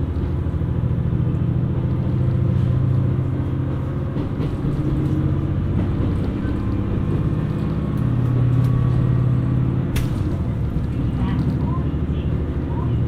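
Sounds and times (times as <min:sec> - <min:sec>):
diesel railcar engine drone: 0:00.0 - 0:13.0.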